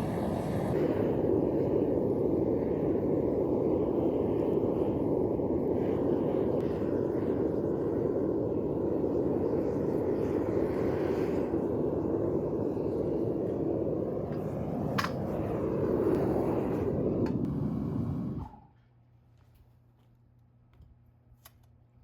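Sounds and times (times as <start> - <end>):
furnace burner rushing: 0.0 - 18.7.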